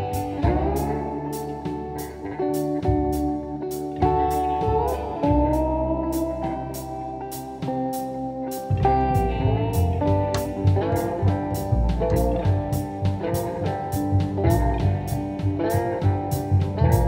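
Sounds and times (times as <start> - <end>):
guitar music with drum beat: 0.0 - 17.0.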